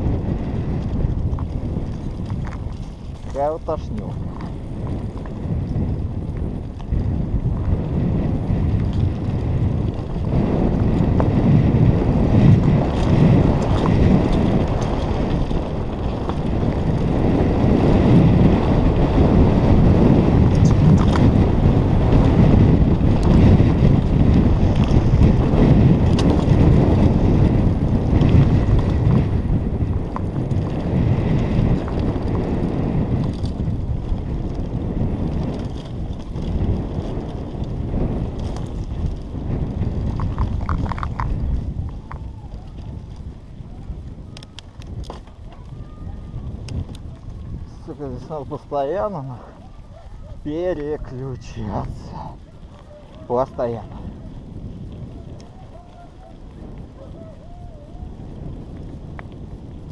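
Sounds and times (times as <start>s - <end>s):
bike rattling: 0.0s - 59.9s
tyres rumbling over dirt: 0.0s - 59.9s
wind buffeting microphone: 0.0s - 59.9s.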